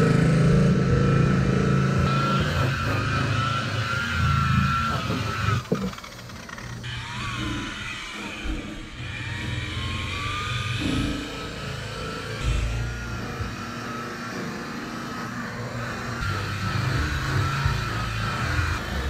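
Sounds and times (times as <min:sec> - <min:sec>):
electric polisher motor whine: 0:00.0 - 0:19.0.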